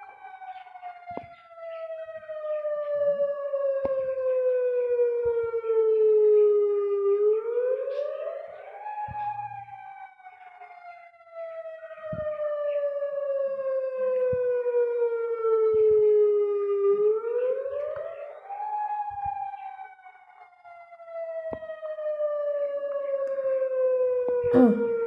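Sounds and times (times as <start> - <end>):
electronic siren wail: 0.0 - 25.0.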